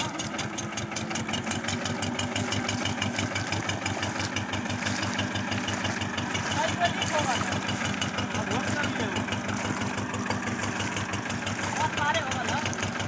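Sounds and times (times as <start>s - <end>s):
tractor diesel engine chugging: 0.0s - 13.0s.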